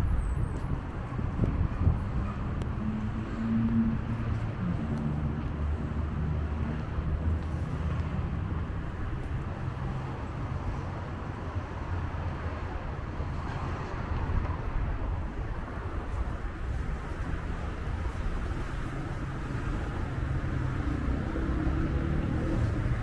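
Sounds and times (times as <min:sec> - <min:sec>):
passing cars traffic noise: 0:00.0 - 0:23.0.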